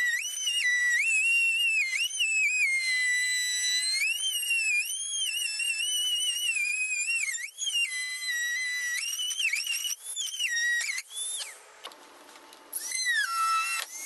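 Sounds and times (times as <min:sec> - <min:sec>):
rotary tool cutting plastic: 0:00.0 - 0:12.0, 0:12.7 - 0:14.0.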